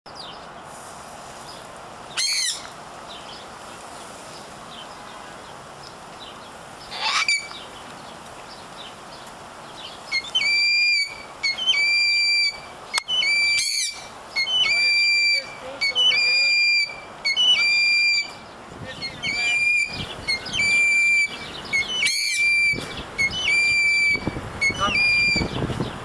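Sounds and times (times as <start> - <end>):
birds calling: 0.1 - 26.0
steady background hiss: 0.1 - 26.0.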